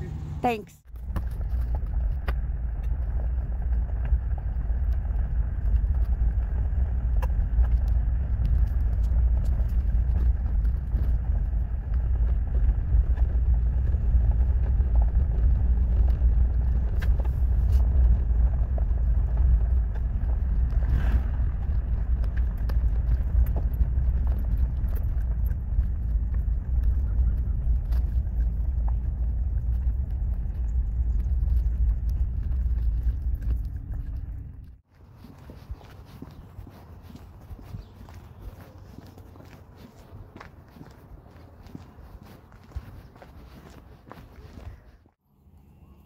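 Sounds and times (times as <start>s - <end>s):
engine and tyres rumbling on gravel: 0.0s - 46.0s.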